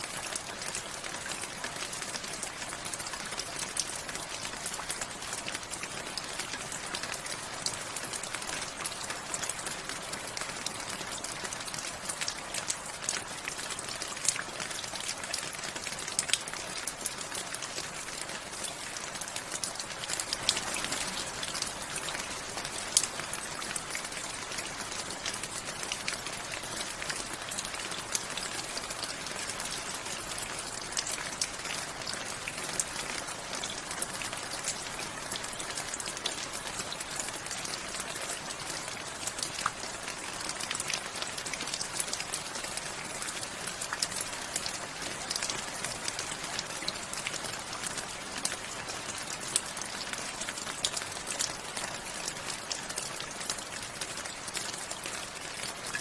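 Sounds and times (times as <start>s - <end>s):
rain drops ticking on hard surface: 0.0s - 56.0s.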